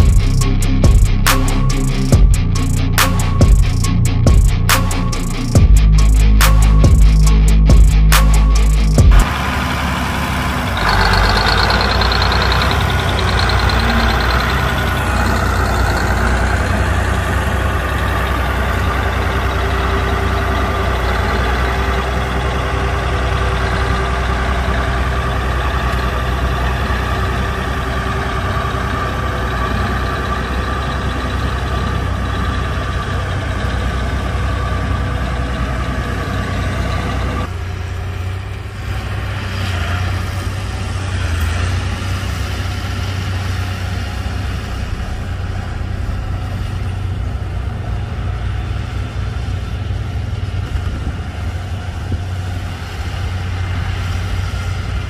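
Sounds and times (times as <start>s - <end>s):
diesel engine deep rumble: 0.0s - 55.0s.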